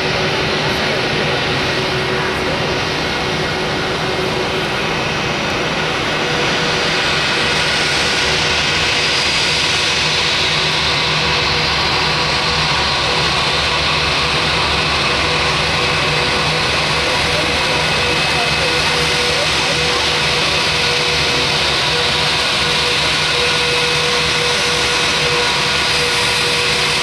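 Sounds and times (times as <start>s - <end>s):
jet engines roaring with whine: 0.0s - 27.0s.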